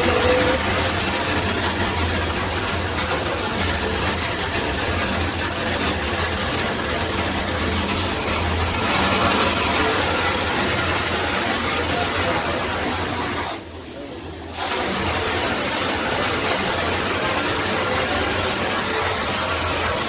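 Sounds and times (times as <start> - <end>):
shower head spraying water: 0.0 - 13.6, 14.5 - 20.0.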